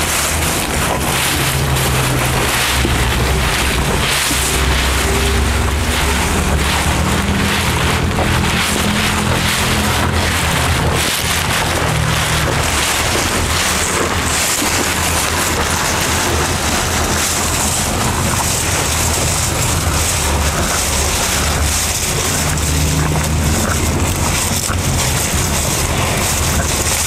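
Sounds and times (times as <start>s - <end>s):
cattle chewing grass: 0.0s - 27.0s
steady low rumble: 0.0s - 27.0s.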